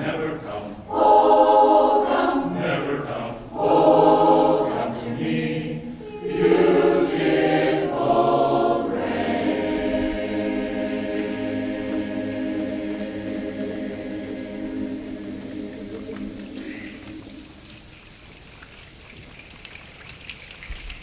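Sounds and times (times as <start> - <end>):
choir singing in parts: 0.0 - 17.7.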